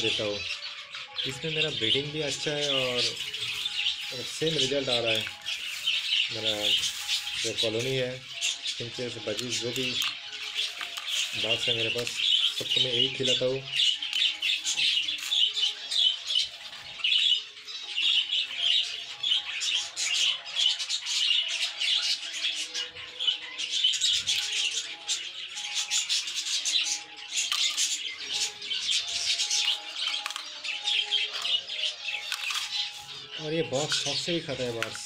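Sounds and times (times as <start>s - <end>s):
budgerigars chattering and chirping: 0.0s - 35.0s.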